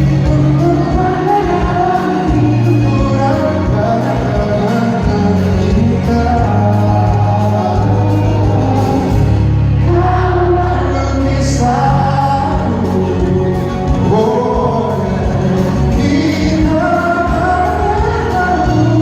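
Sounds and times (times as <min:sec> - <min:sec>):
live band playing pop song: 0:00.0 - 0:19.0
voices singing together: 0:00.0 - 0:19.0.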